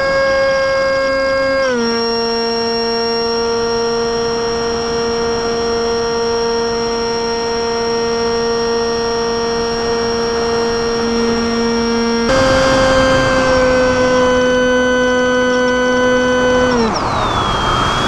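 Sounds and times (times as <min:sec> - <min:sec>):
model plane motor and propeller: 0:00.0 - 0:18.0.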